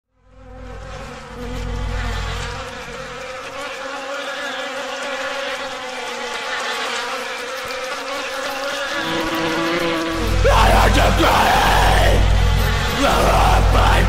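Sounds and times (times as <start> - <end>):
swarm of insects buzzing: 0.2 - 14.0.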